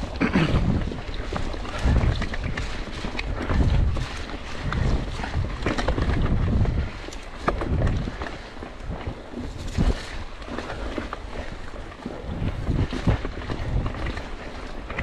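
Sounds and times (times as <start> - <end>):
bike rattling and knocking: 0.0 - 15.0
bike tyres rumbling over dirt: 0.0 - 15.0
wind buffeting microphone: 0.0 - 15.0.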